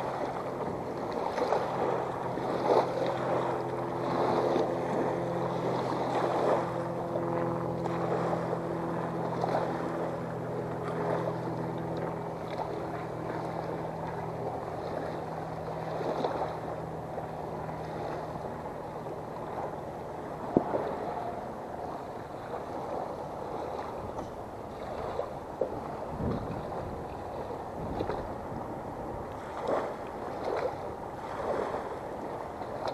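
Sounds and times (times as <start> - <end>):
engine hum: 0.0 - 32.9
water lapping against boat: 0.0 - 32.9
wind on microphone: 0.0 - 32.9.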